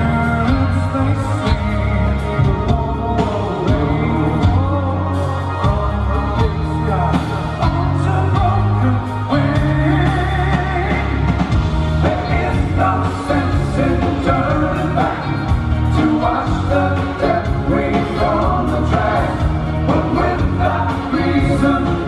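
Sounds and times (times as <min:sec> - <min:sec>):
drums: 0:00.0 - 0:22.0
electric bass guitar: 0:00.0 - 0:22.0
man singing: 0:00.0 - 0:22.0.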